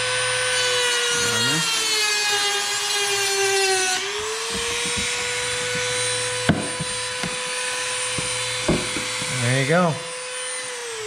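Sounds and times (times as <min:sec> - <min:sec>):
rotary tool whining: 0:00.0 - 0:11.0.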